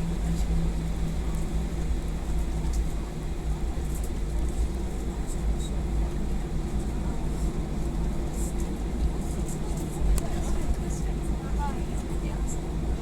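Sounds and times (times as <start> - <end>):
airliner cabin rumble and hum: 0.0 - 13.0.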